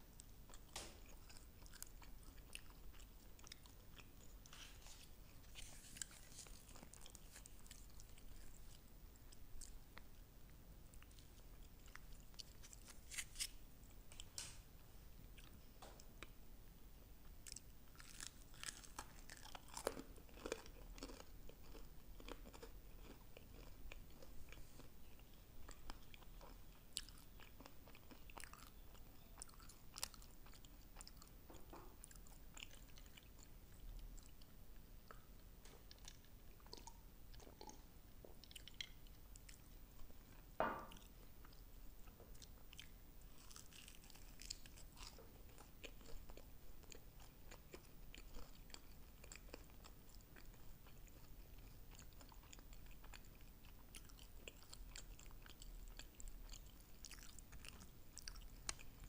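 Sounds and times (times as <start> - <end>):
chewing with soft crunches: 0.1 - 16.4, 17.2 - 59.0.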